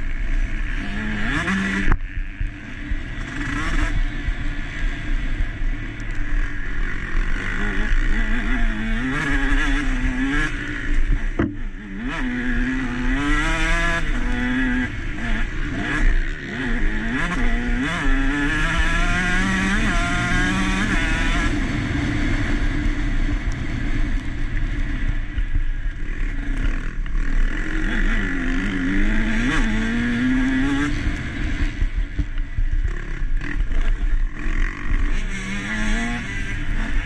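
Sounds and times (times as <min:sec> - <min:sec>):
steady rush of noise: 0:00.0 - 0:37.0
motocross engine revving: 0:00.3 - 0:05.3, 0:06.4 - 0:23.1, 0:26.1 - 0:32.0, 0:32.9 - 0:37.0.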